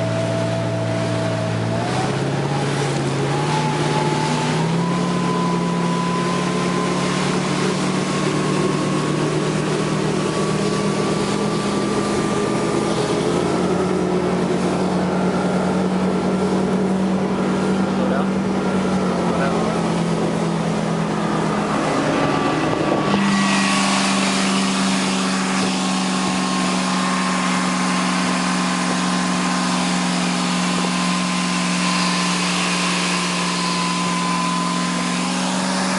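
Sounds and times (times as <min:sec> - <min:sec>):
boat inboard engine running: 0:00.0 - 0:35.9.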